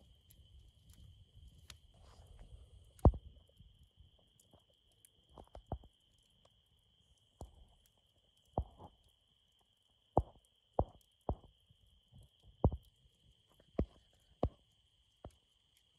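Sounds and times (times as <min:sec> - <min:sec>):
crickets trilling: 0:00.0 - 0:15.9.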